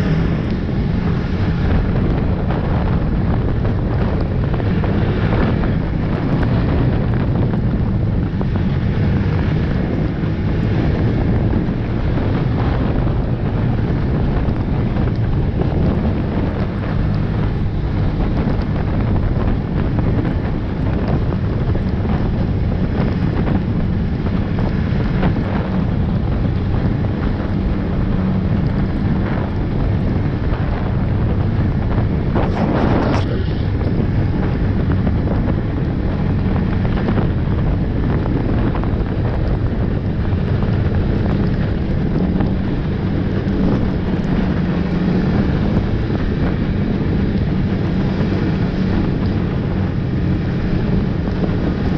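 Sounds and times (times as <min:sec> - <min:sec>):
snowmobile engine running: 0:00.0 - 0:51.9
wind buffeting microphone: 0:00.0 - 0:51.9.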